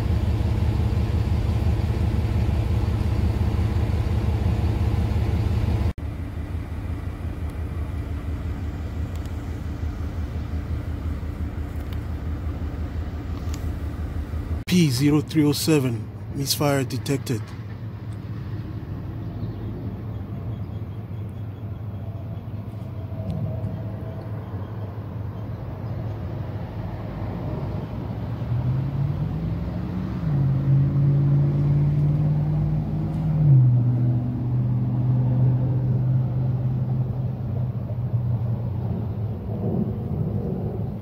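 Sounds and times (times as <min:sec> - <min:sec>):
misfiring engine low rumble: 0:00.0 - 0:41.0.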